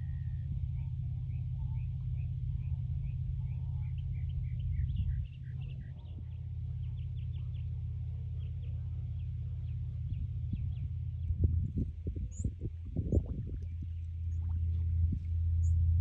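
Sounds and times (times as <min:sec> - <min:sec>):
small birds chirping: 0:00.0 - 0:15.8
steady low rumble: 0:00.0 - 0:16.0.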